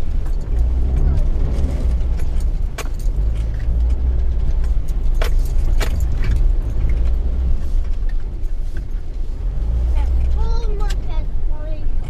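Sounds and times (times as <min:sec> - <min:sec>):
sharp clicks and rattles: 0:00.0 - 0:09.2, 0:10.0 - 0:12.0
vehicle rumble from inside cab: 0:00.0 - 0:12.0.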